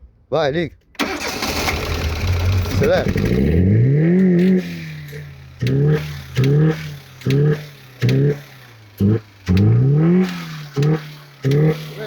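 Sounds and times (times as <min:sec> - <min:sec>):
car engine revving: 0:01.0 - 0:12.0.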